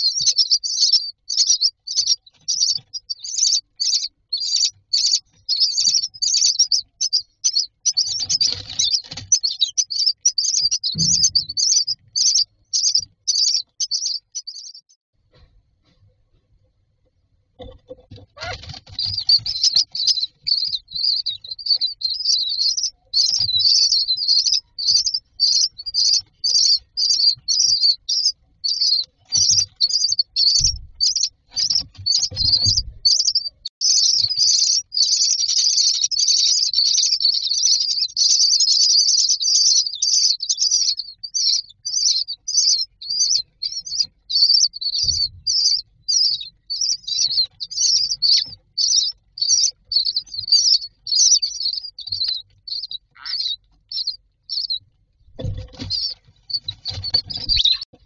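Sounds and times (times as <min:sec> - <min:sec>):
nestlings cheeping: 0:00.0 - 0:15.0, 0:18.0 - 0:54.9, 0:55.6 - 0:57.9.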